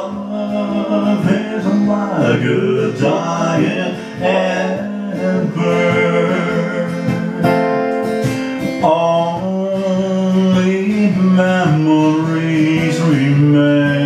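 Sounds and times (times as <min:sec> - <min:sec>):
acoustic guitar strumming: 0:00.0 - 0:14.0
man singing with harmony voices: 0:00.0 - 0:14.0.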